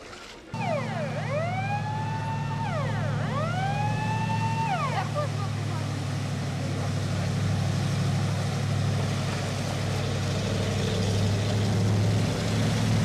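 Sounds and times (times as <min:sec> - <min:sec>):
water washing: 0:00.0 - 0:13.0
truck engine running: 0:00.5 - 0:13.0.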